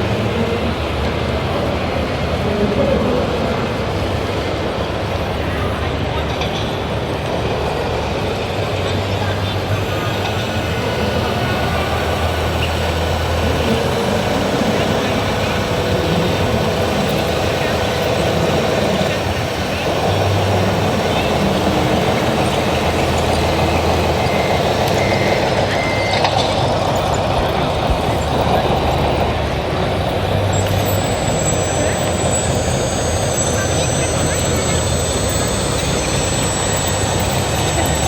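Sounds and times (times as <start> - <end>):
model trucks running: 0.0 - 38.0
people talking: 0.0 - 38.0.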